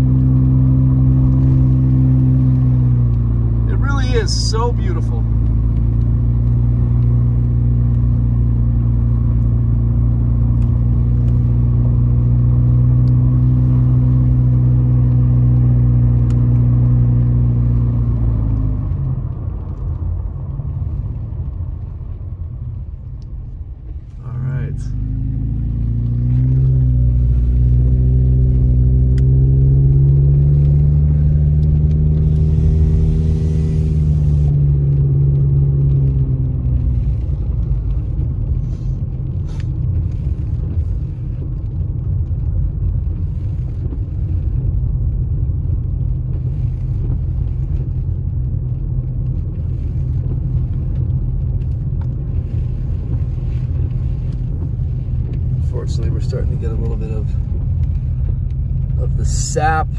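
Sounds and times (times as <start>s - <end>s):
car engine: 0.0s - 59.9s
road noise rumble: 0.0s - 59.9s.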